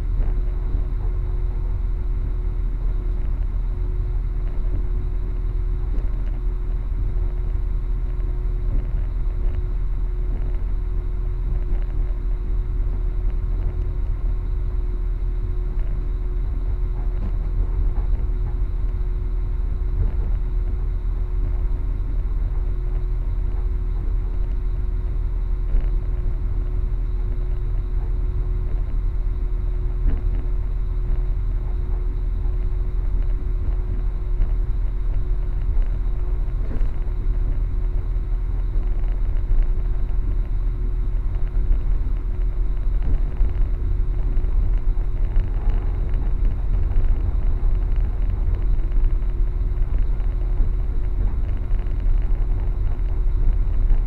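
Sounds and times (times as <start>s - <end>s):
constant hum: 0.0s - 54.0s
train rumble inside carriage: 0.0s - 54.0s.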